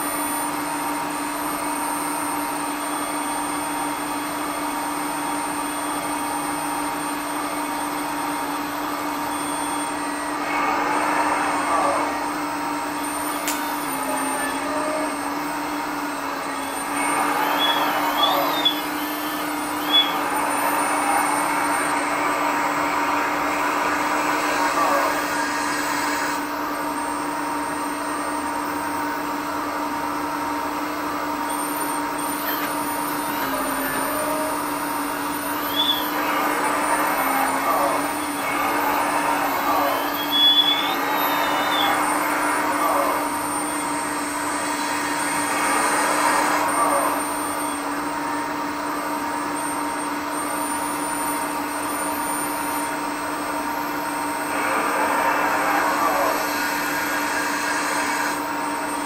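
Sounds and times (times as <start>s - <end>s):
hydraulic pump whine: 0.0s - 59.0s.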